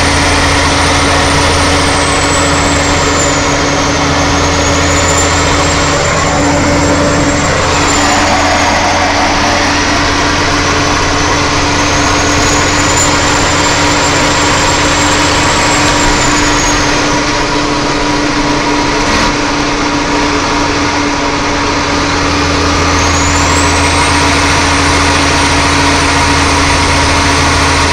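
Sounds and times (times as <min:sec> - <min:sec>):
road noise: 0:00.0 - 0:27.9
truck engine running: 0:00.0 - 0:27.9.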